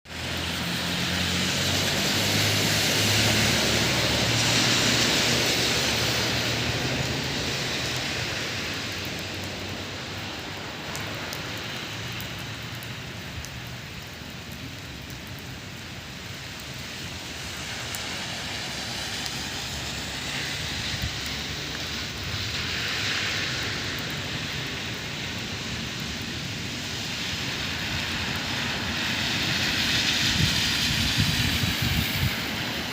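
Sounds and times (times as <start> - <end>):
rain falling: 0.1 - 32.9.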